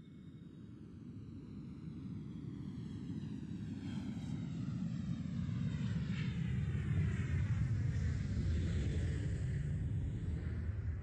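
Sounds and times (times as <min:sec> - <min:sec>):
plane engine droning past: 0:01.5 - 0:11.0.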